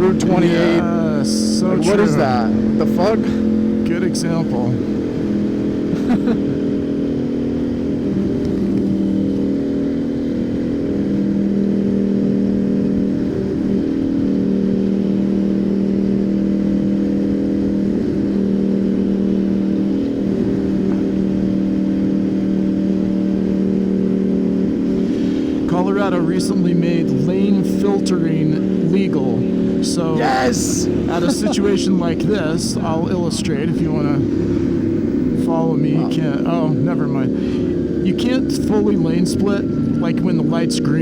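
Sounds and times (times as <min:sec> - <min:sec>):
road and wind rumble: 0:00.0 - 0:41.0.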